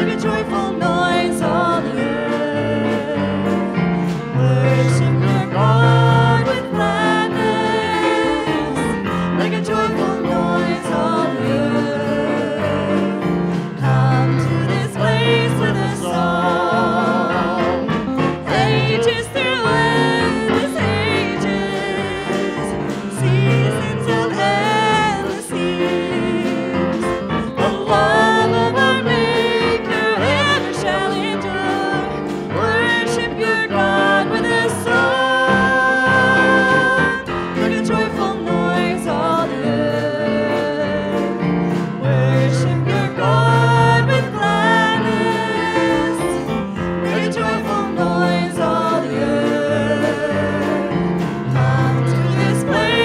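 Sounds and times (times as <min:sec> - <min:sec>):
congregation singing a hymn: 0:00.0 - 0:53.0
keyboard accompaniment: 0:00.0 - 0:53.0.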